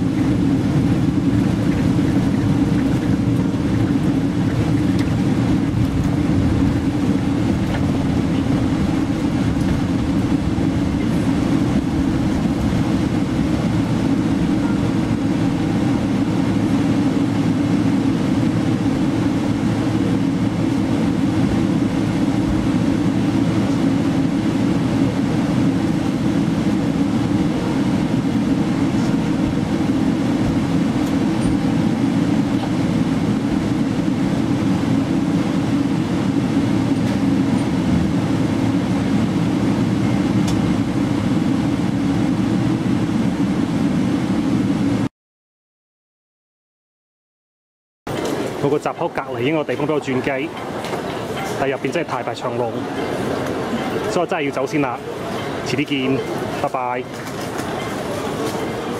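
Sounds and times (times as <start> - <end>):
airplane cabin rumble while taxiing: 0.0 - 45.1, 48.1 - 58.9.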